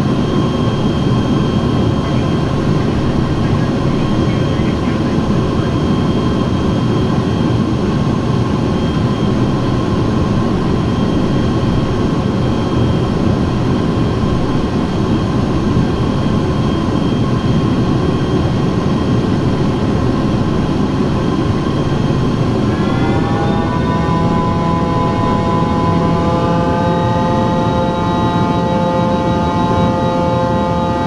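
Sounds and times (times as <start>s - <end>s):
faint steady whine tones: 0.0s - 31.0s
jet engines rushing: 0.0s - 31.0s.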